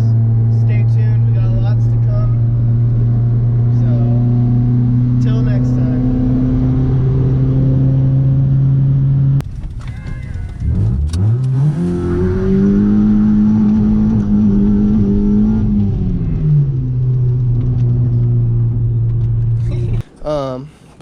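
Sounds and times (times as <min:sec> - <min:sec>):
car engine revving: 0:00.0 - 0:09.7, 0:10.6 - 0:20.0.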